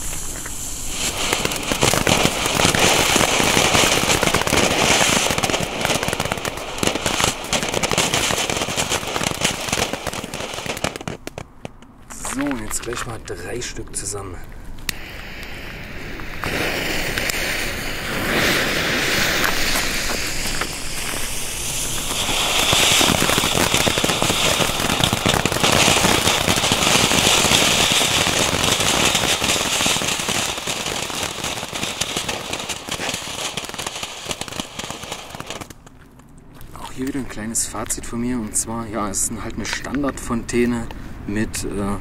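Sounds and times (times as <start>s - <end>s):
firework fountains hissing and crackling: 0.0s - 36.0s.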